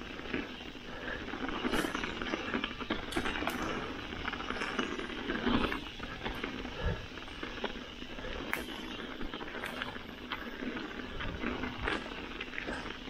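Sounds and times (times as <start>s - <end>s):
bike rattling and clicking: 0.0s - 13.0s
bike tyres rolling over leaves: 0.0s - 13.0s.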